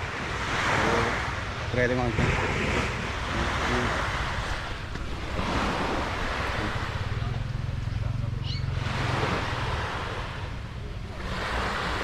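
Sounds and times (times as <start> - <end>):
sea water washing around kayak: 0.0 - 12.0
wind on microphone: 0.0 - 12.0.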